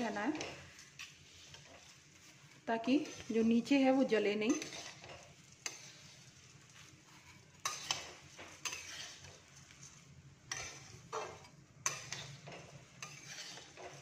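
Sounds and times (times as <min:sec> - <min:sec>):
oil sizzling: 0:00.0 - 0:14.0
spatula scraping metal pan: 0:00.0 - 0:14.0.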